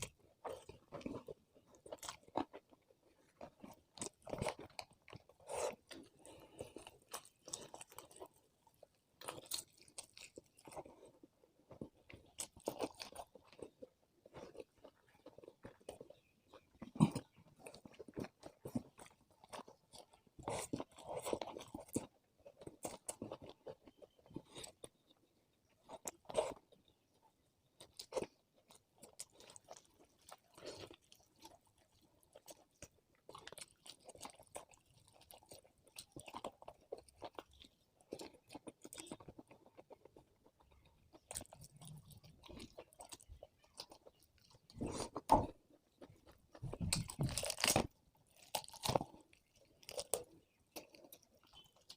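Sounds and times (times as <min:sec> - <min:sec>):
person chewing and crunching food: 0:00.0 - 0:51.9.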